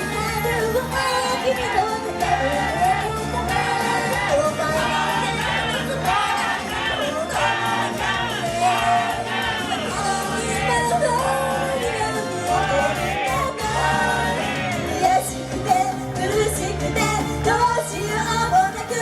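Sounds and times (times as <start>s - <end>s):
loud backing track: 0.0s - 19.0s
women singing pop song: 0.0s - 19.0s.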